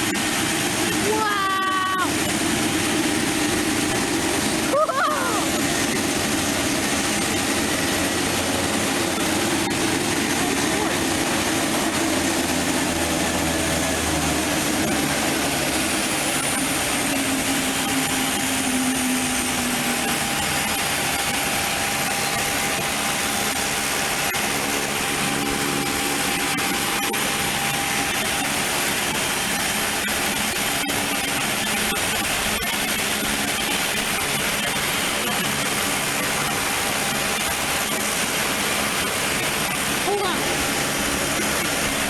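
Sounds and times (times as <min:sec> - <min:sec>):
aircraft engine running: 0:00.0 - 0:42.0.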